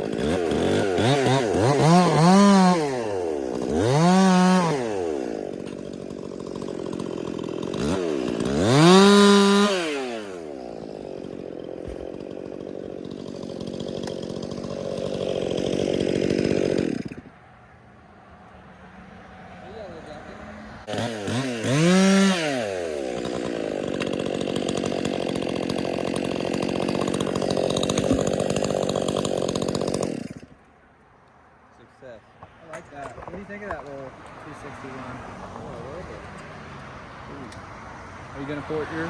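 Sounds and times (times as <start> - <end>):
chainsaw revving: 0.0 - 17.3, 20.8 - 30.6, 33.1 - 39.0.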